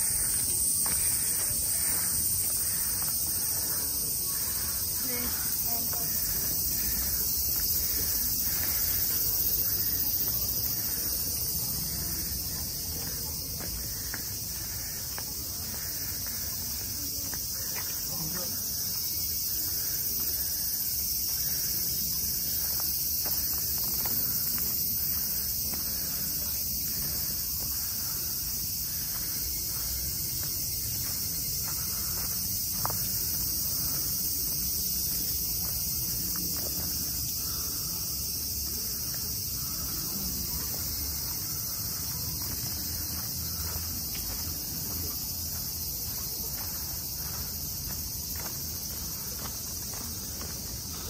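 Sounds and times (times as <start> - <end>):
shrill insect chorus: 0.0 - 51.0.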